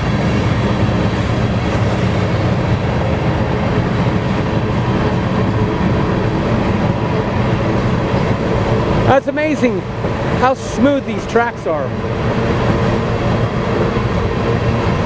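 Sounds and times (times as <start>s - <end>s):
diesel locomotive engines droning: 0.0s - 15.0s
freight train rolling past: 0.0s - 15.0s.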